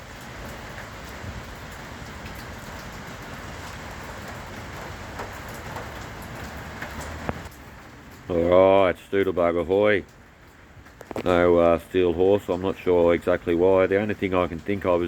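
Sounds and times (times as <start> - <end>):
heavy rain falling: 0.0 - 15.0
water drips tapping: 0.0 - 15.0.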